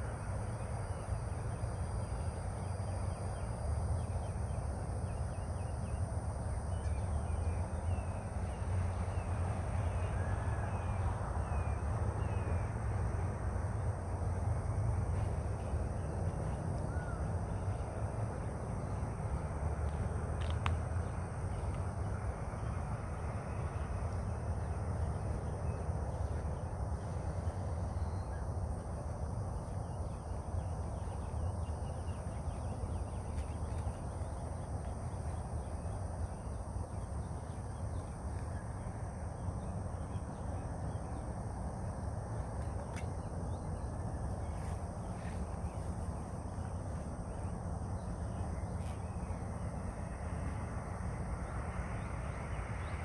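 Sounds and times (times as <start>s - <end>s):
steady low rumble: 0.0s - 53.0s.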